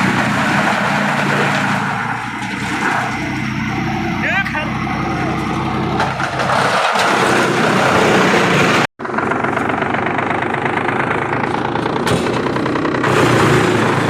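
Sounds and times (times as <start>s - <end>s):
wood chipper running: 0.0s - 14.0s.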